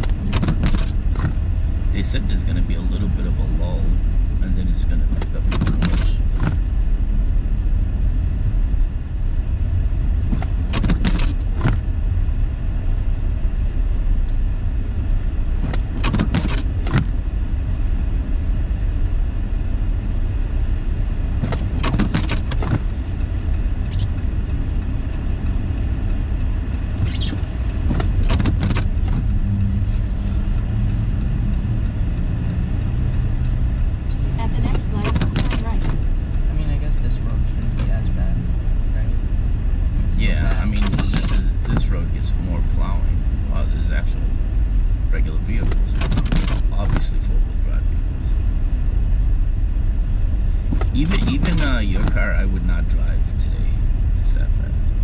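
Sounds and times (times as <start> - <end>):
engine and tyres rumbling: 0.0 - 55.0.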